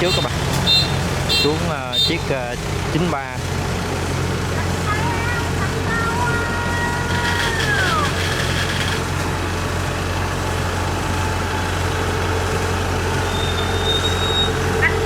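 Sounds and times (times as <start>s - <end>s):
combine harvester diesel engine: 0.0s - 15.0s.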